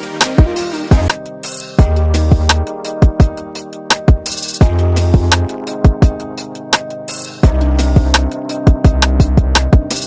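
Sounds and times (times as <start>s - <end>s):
electronic beat music: 0.0s - 10.0s.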